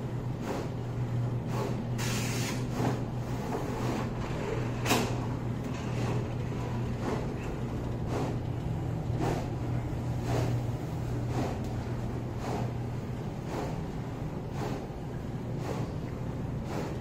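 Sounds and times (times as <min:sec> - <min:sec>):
printer humming: 0:00.0 - 0:17.0.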